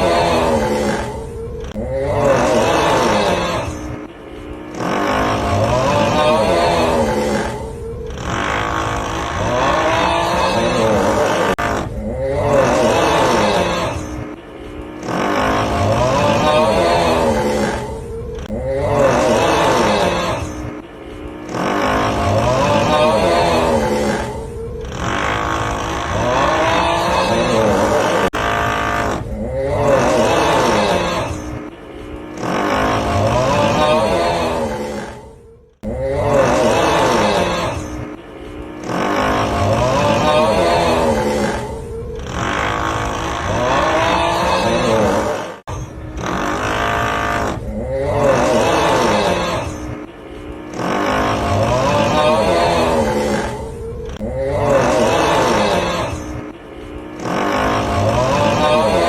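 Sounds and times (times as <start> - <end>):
man's wavering groan: 0.0 - 4.1, 4.8 - 14.4, 15.0 - 20.8, 21.4 - 31.7, 32.4 - 38.2, 38.8 - 46.1, 46.8 - 50.0, 50.8 - 56.6
steady drilling noise: 2.5 - 35.1, 35.9 - 59.0.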